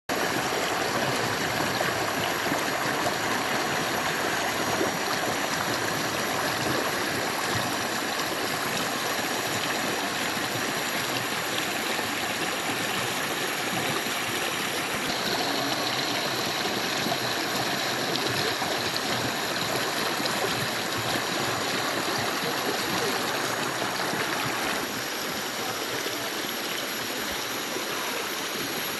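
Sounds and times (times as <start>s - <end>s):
stream water gurgling: 0.1s - 28.9s.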